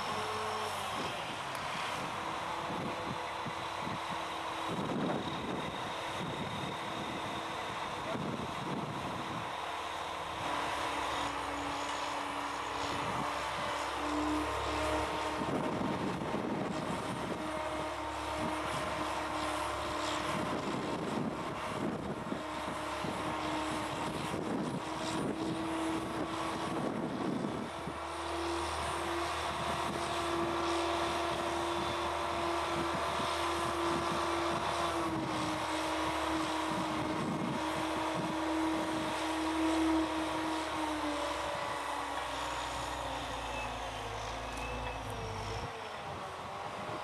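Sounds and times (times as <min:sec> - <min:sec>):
crane engine droning: 0:00.0 - 0:47.0.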